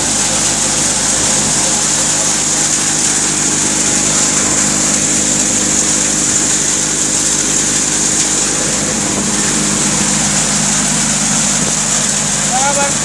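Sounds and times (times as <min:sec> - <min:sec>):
thresher machinery drone: 0:00.0 - 0:13.0.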